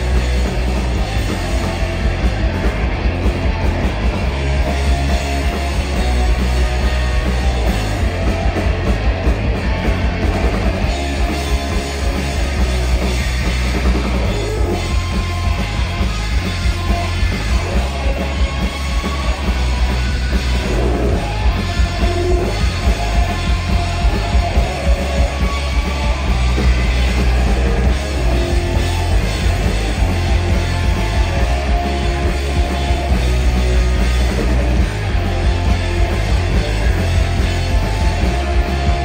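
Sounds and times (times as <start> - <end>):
rock band playing: 0.0 - 39.0.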